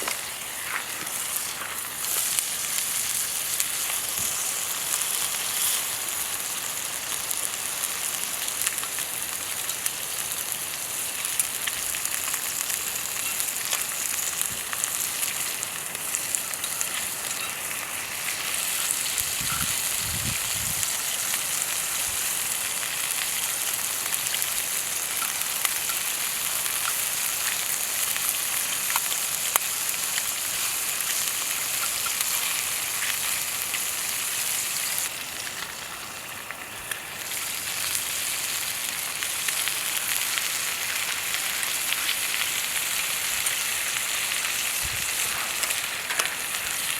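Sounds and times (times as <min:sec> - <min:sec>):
food sizzling in a skillet: 0:00.0 - 0:46.9.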